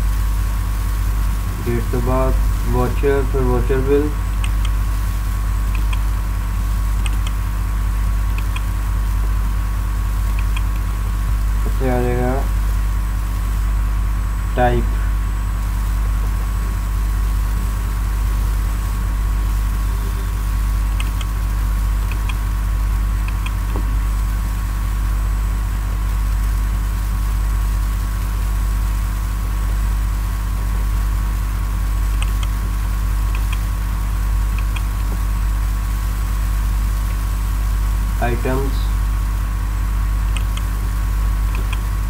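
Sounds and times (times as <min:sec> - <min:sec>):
low buzzing hum: 0:00.0 - 0:42.0.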